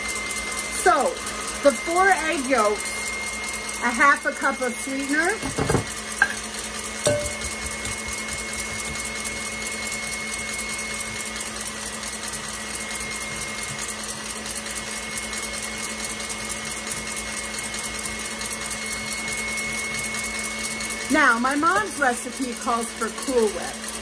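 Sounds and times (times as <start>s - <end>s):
stand mixer whirring: 0.0s - 24.0s.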